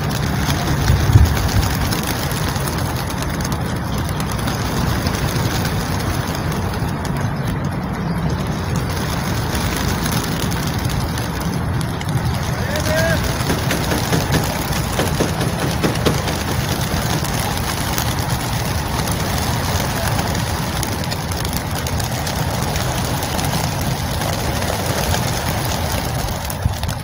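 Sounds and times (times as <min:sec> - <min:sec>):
low engine rumble: 0:00.0 - 0:27.0
pigeon wings beating: 0:00.0 - 0:27.0.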